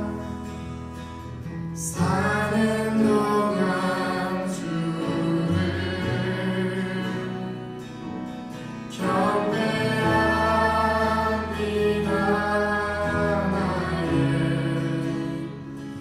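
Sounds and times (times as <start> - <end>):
people singing: 1.8 - 16.0
worship band music: 1.8 - 16.0.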